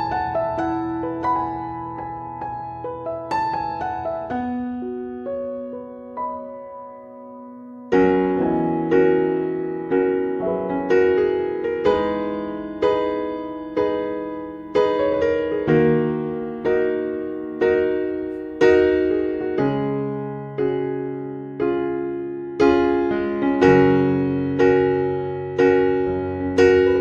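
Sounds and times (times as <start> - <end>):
piano chords ringing: 0.0 - 27.0.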